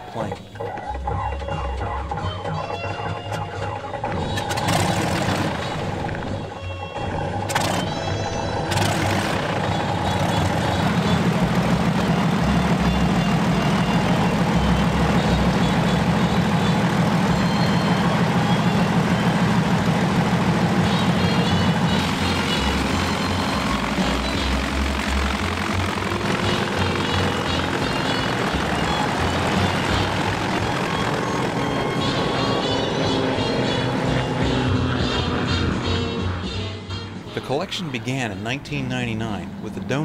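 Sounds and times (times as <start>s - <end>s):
propeller aircraft engine running: 0.0s - 40.0s.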